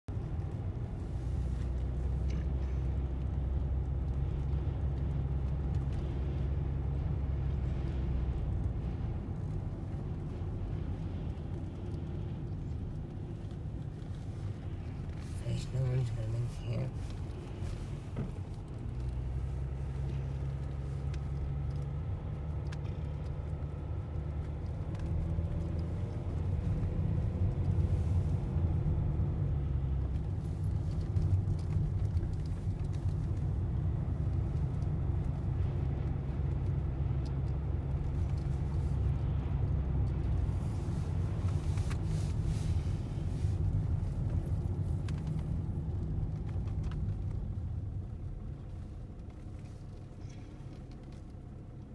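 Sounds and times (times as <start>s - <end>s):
road rumble inside car: 0.0s - 51.9s
faint engine hum: 0.1s - 51.9s.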